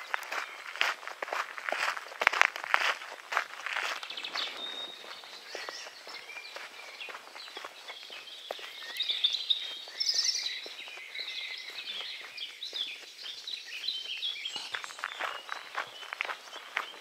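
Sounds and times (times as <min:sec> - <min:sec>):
footsteps on dirt track: 0:00.0 - 0:17.0
wild birds singing: 0:00.0 - 0:17.0.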